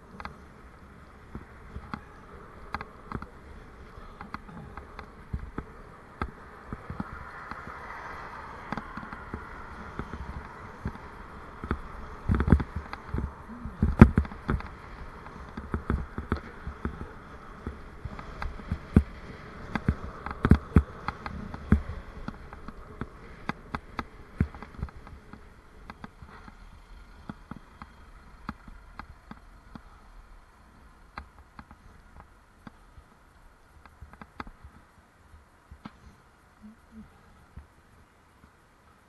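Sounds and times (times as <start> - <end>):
bicycle rattling over road: 0.0 - 39.0
steady buzzing hum: 0.0 - 39.0.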